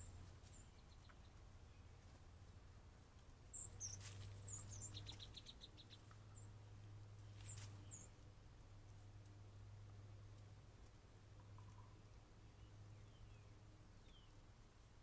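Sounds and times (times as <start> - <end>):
small birds chirping: 0.0 - 9.7, 10.3 - 15.0.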